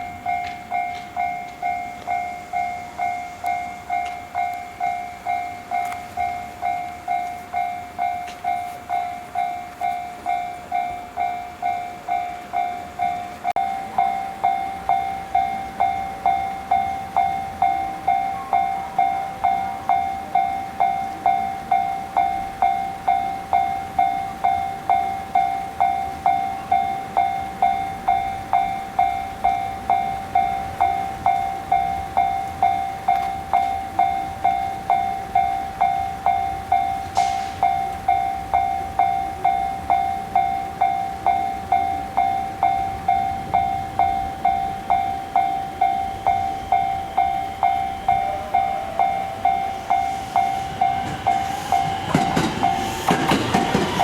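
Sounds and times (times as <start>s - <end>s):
level-crossing warning bell ringing: 0.0s - 54.0s.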